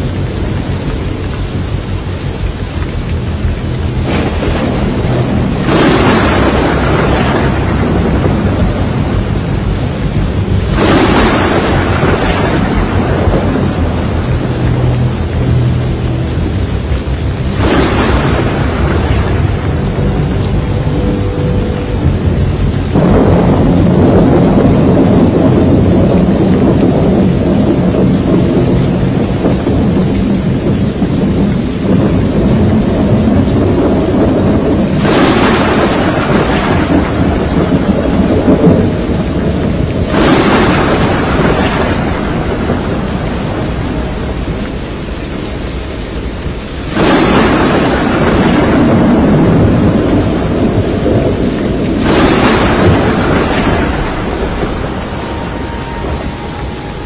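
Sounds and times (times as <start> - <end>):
heavy rain roar: 0.0 - 57.0
thunder cracks and rumble: 0.0 - 57.0.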